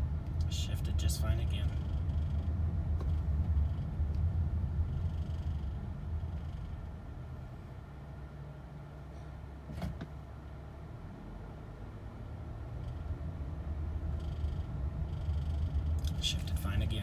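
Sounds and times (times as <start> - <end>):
engine and road rumble in cabin: 0.0 - 17.0.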